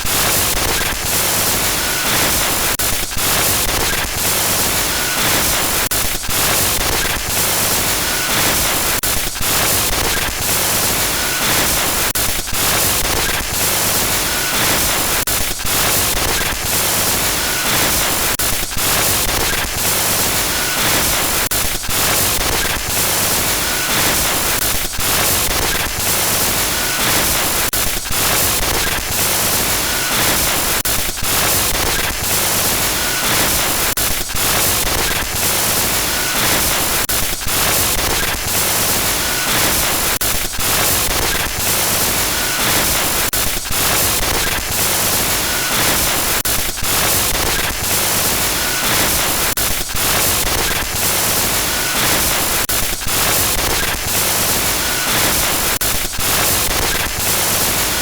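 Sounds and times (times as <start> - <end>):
harsh static glitch noise: 0.0 - 58.0.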